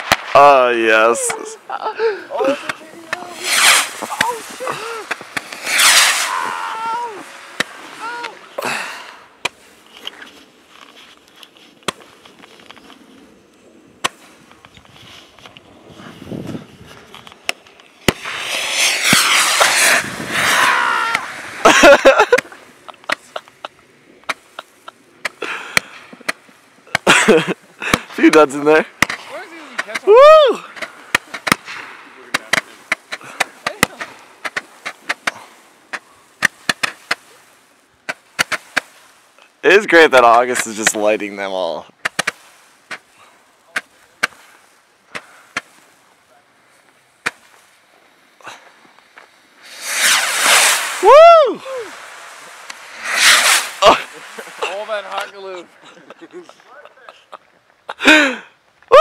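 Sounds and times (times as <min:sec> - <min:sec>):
fireworks banging: 0:00.0 - 0:13.3, 0:14.0 - 0:58.0
faint fireworks crackling: 0:00.0 - 0:59.0.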